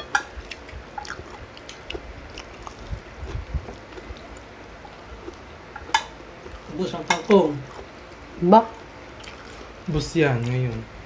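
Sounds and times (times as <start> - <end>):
soft chewing: 0.2 - 10.8.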